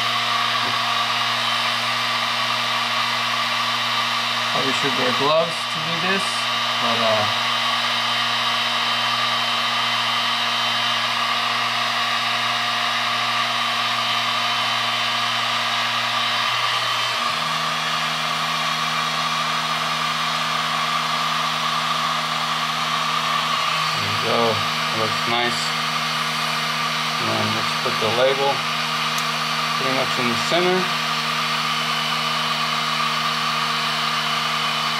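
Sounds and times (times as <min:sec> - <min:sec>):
heat gun fan rush and motor hum: 0:00.0 - 0:34.9.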